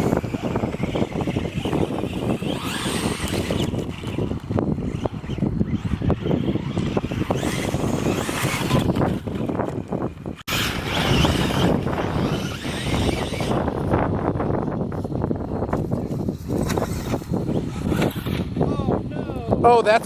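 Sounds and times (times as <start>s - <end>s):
rc truck driving: 0.0s - 19.0s
wind buffeting microphone: 0.0s - 20.0s.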